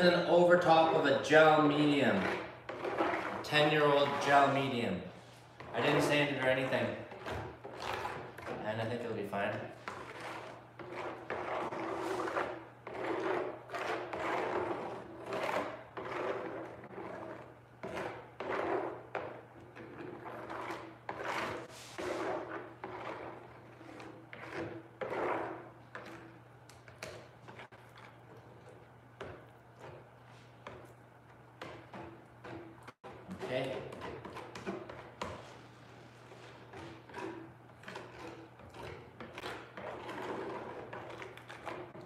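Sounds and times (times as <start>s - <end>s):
plastic spreader scraping resin: 0.0s - 30.9s, 31.6s - 42.0s.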